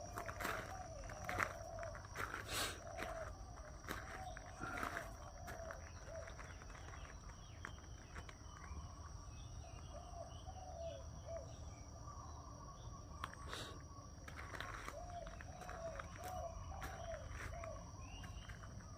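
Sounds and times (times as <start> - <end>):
birds calling low notes: 0.0 - 18.9
high insect drone: 0.0 - 18.9.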